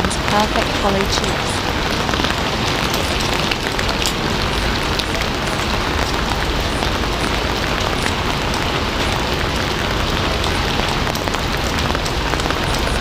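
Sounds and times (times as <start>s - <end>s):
heavy rain on a hard surface: 0.0s - 13.0s
raindrop ticks: 0.0s - 13.0s.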